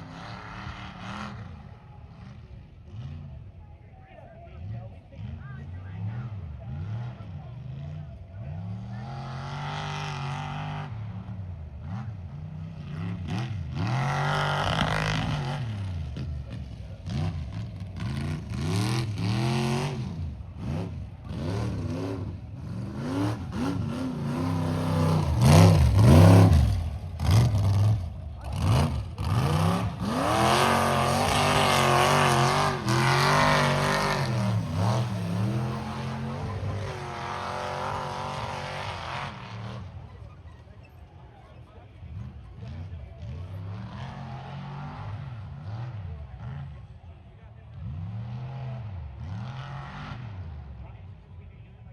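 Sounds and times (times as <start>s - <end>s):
truck engine revving: 0.0s - 3.6s, 4.5s - 50.9s.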